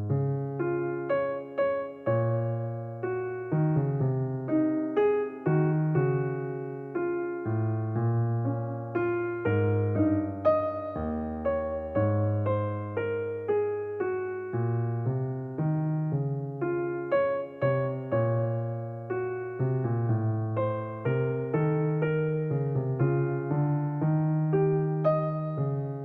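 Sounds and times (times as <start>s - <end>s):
calm piano music: 0.0s - 26.0s.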